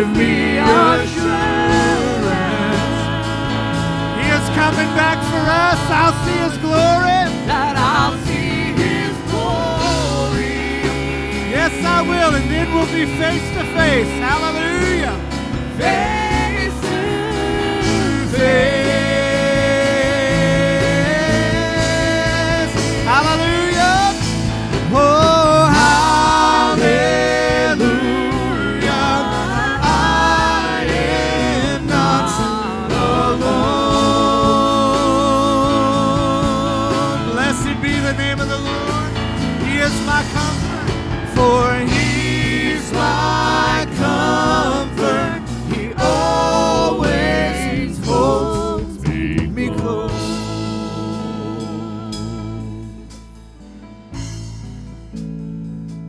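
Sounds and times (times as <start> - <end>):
band accompaniment: 0.0 - 56.0.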